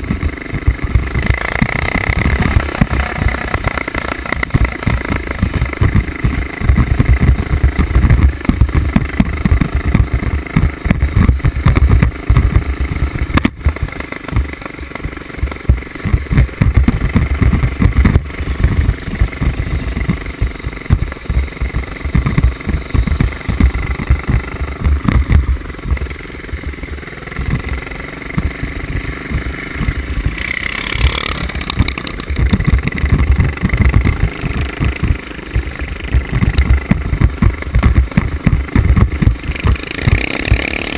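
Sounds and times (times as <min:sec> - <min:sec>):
mini bike engine revving: 0:00.0 - 0:40.9.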